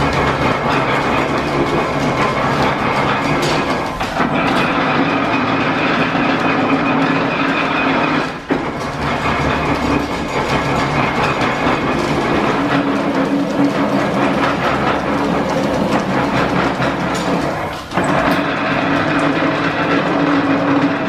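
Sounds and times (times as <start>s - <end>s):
machine whine: 0.0s - 21.0s
metal planer rumble and clatter: 0.0s - 21.0s.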